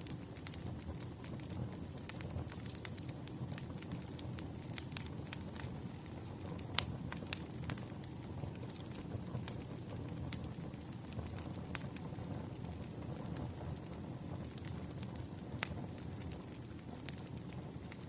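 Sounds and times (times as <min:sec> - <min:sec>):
firewood crackling and popping: 0:00.0 - 0:18.0.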